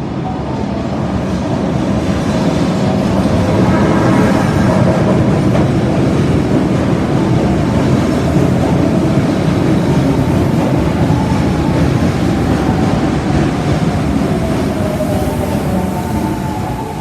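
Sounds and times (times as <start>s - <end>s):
subway train rumbling on rails: 0.0s - 17.0s.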